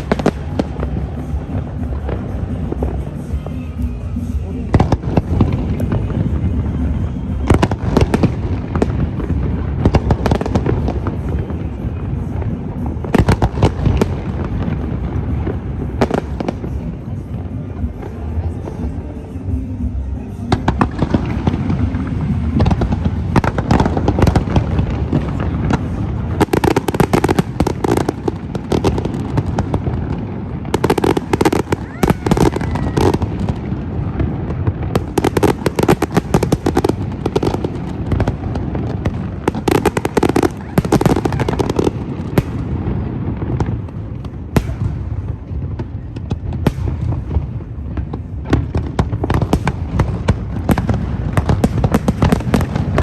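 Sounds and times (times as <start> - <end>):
fireworks bangs and crackling: 0.0 - 53.0.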